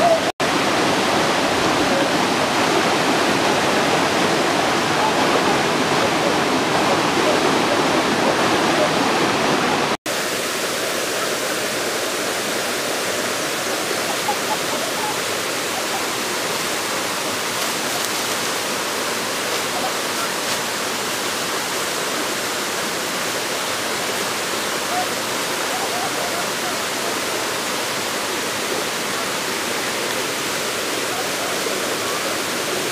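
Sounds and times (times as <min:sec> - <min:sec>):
small waterfall rushing: 0:00.0 - 0:32.9.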